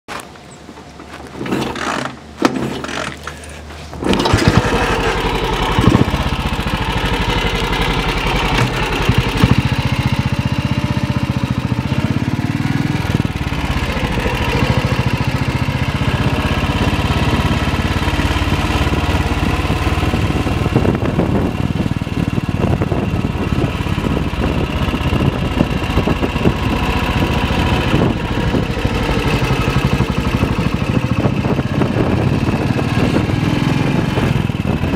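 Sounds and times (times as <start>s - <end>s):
motorcycle engine running: 4.0s - 34.9s.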